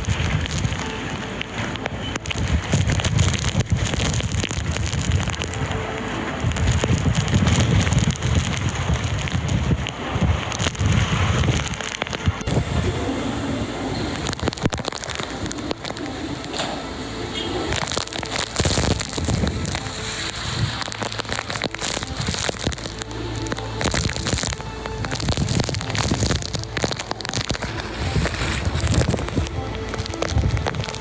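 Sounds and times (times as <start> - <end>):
wind buffeting microphone: 0.0 - 16.5, 17.6 - 31.0
heavy rain on street: 0.0 - 31.0.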